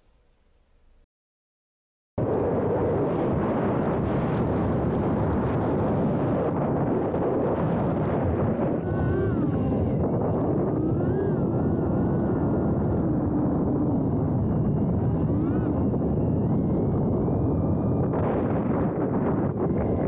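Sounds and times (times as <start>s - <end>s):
wind rush: 2.2s - 20.0s.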